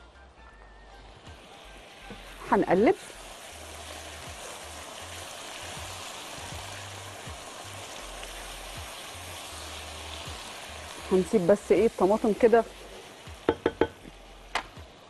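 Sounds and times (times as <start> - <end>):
meat and tomatoes sizzling in a pan: 1.0 - 15.0.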